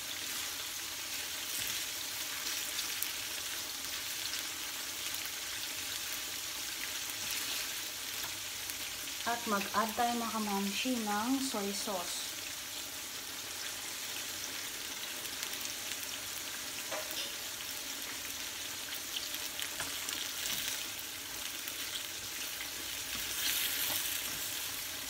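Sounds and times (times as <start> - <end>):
onions sizzling in a frying pan: 0.0 - 25.0
tongs stirring onions: 0.1 - 11.8, 13.5 - 25.0.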